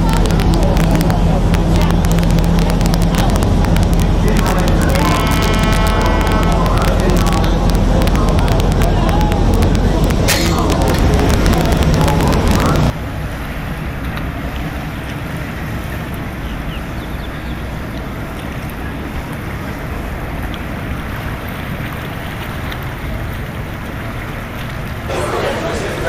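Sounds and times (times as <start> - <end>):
wind buffeting microphone: 0.0 - 25.1
boat noise: 0.0 - 26.0
water wash: 0.0 - 26.0.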